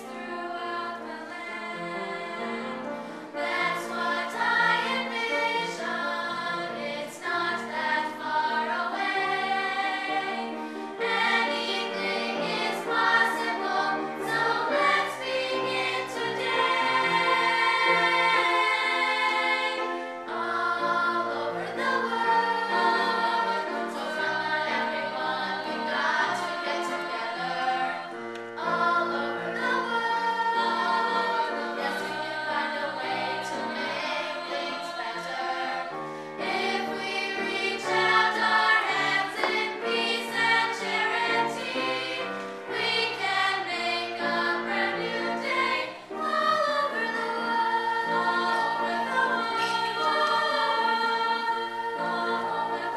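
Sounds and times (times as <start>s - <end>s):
girls' chorus singing: 0.0s - 52.9s
piano accompaniment: 0.0s - 52.9s.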